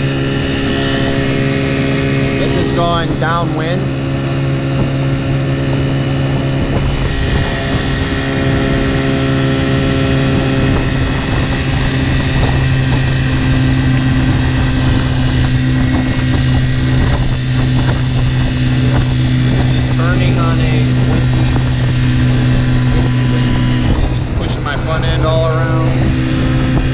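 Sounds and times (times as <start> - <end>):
outboard motor running: 0.0 - 26.9
water rushing along hull: 0.0 - 26.9.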